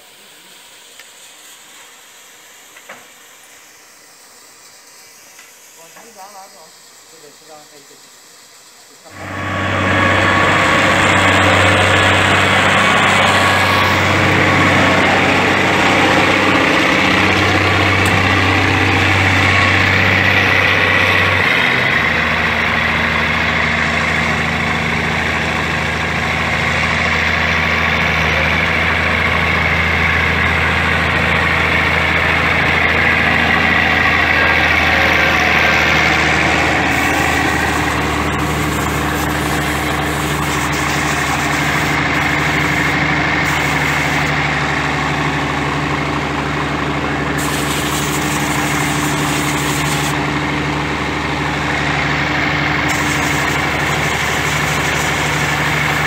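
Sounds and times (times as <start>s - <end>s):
diesel engine idling: 9.0s - 56.0s.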